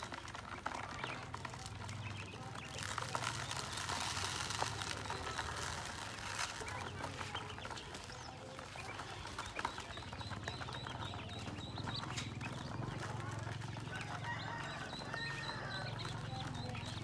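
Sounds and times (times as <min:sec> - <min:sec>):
ducklings peeping: 0:00.1 - 0:17.0.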